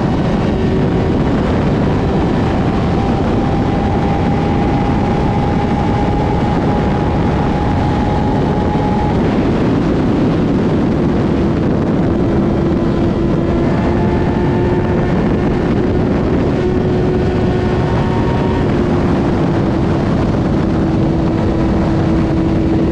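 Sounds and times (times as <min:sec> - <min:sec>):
motorcycle engine at high revs: 0:00.0 - 0:22.9
wind noise rushing: 0:00.0 - 0:22.9.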